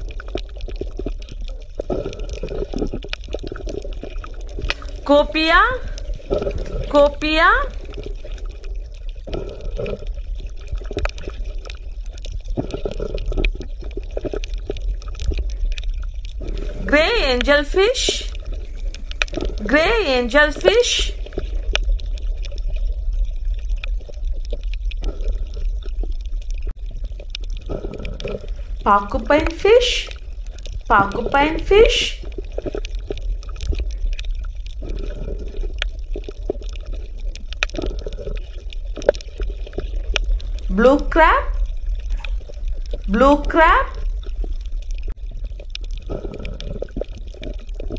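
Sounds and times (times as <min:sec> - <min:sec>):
crackles: 0:00.0 - 0:47.9
water bubbling and gurgling: 0:00.0 - 0:47.9.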